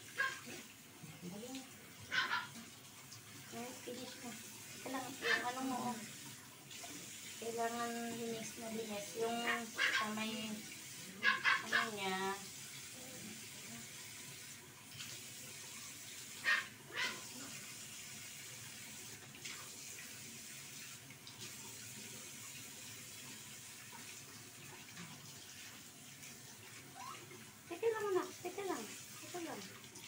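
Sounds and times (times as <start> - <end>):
tap water running into sink: 0.0 - 30.0.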